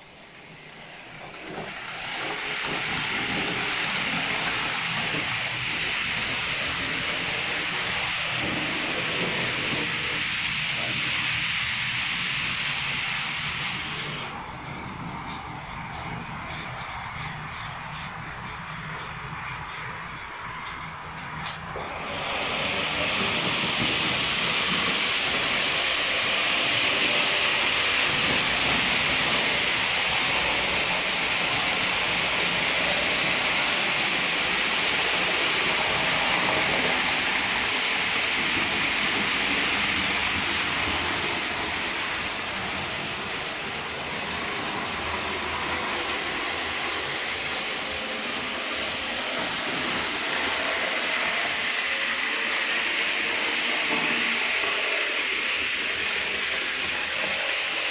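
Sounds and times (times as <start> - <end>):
model train motor whirring: 0.0 - 57.9
wheels rolling on rails: 0.0 - 57.9.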